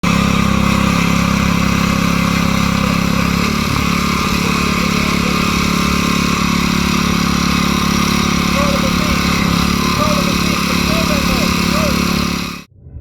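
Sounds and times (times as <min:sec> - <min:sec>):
engine idling: 0:00.0 - 0:12.7.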